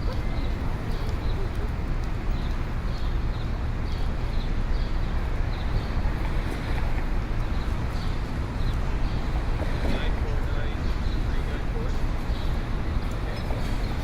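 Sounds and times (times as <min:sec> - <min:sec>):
traffic rumble and hum: 0:00.0 - 0:14.0.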